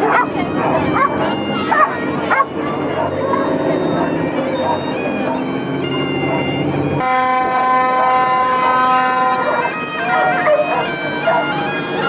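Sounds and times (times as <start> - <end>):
bagpipes playing: 0.0 - 12.0
boat horn blast: 0.0 - 12.0.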